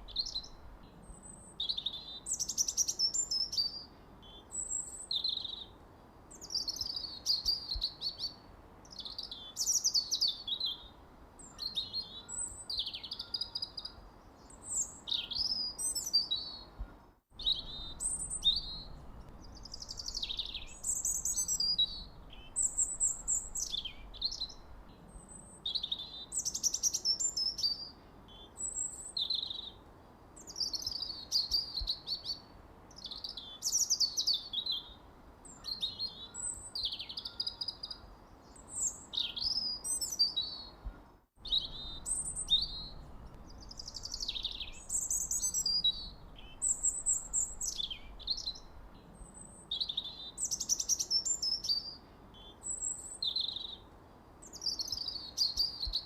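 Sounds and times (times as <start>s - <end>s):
faint steady hiss: 0.0s - 56.0s
songbird singing: 0.0s - 56.0s.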